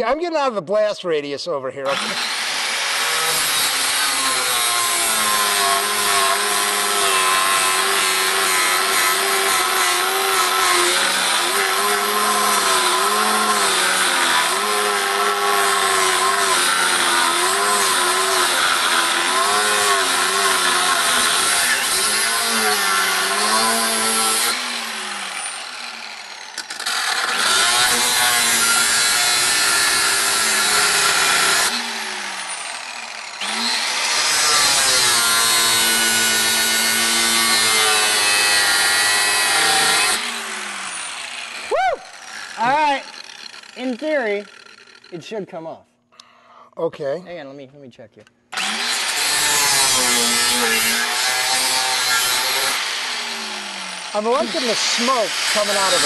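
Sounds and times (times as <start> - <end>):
angle grinder cutting metal: 1.8 - 45.2, 48.5 - 56.0.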